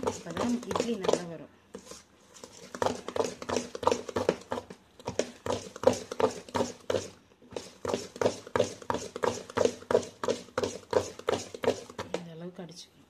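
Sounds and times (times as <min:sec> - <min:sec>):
batter beaten by hand in steel vessel: 0:00.0 - 0:12.4.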